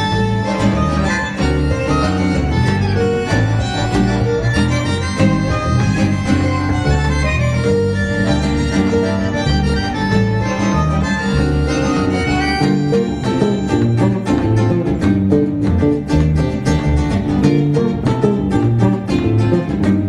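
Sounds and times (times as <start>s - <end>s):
acoustic guitar: 0.0s - 20.0s
held melody line: 0.0s - 20.0s
pulsing low accompaniment: 0.0s - 20.0s.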